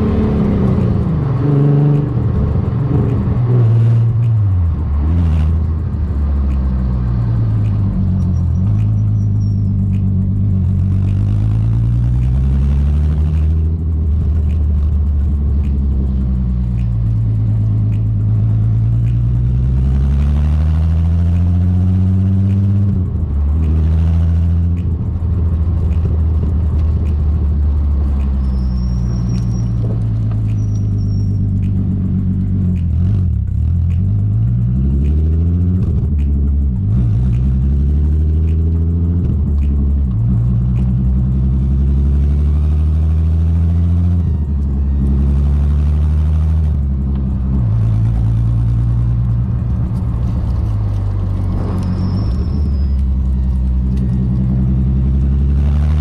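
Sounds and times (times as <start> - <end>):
car exhaust droning: 0.0 - 56.0.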